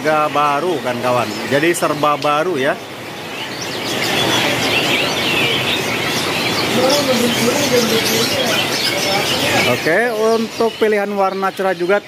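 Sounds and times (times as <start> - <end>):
canaries twittering: 0.0 - 12.0.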